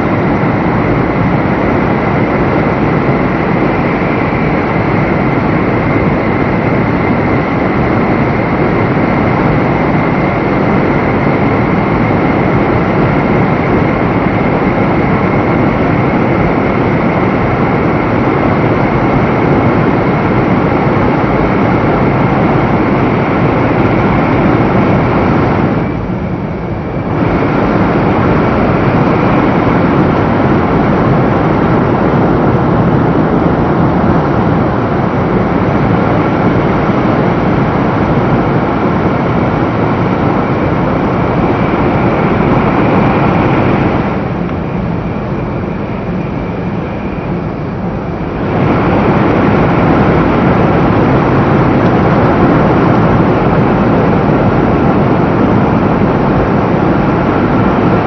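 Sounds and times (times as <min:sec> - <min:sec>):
high-speed train running noise: 0:00.0 - 0:58.0
steady high whine: 0:00.0 - 0:58.0.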